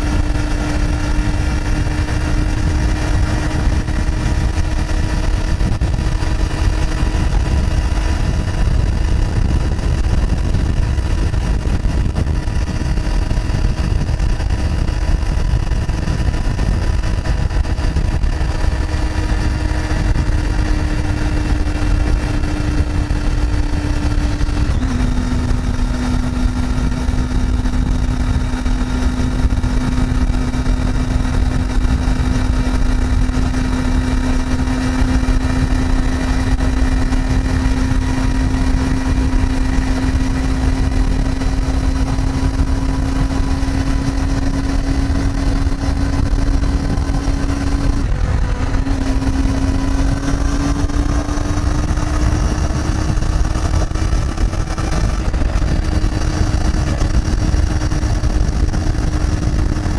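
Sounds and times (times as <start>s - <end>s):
motorcycle engine cruising: 0.0s - 59.9s
wind buffeting on microphone: 0.0s - 59.9s.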